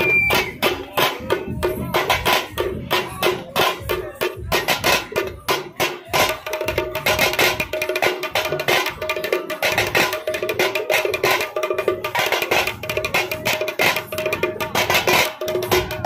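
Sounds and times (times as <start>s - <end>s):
loud fast drumming: 0.0s - 16.0s.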